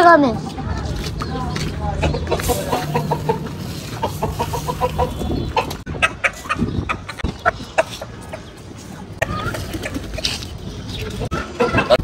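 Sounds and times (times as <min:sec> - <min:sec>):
chickens clucking: 0:00.1 - 0:12.0.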